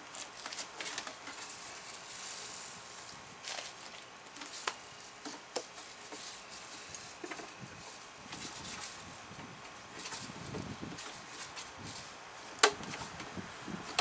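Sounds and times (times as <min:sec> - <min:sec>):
twine scraping on plastic: 0:00.0 - 0:13.3.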